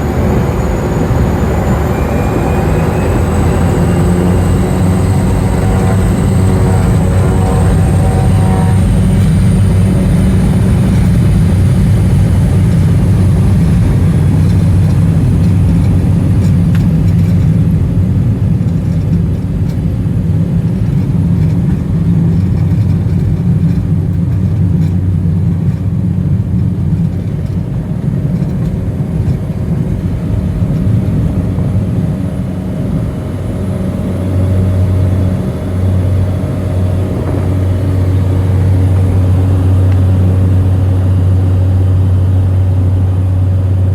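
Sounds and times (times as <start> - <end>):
high turbine whine: 0.0 - 22.4, 27.8 - 43.9
turboprop engine droning: 0.0 - 43.9.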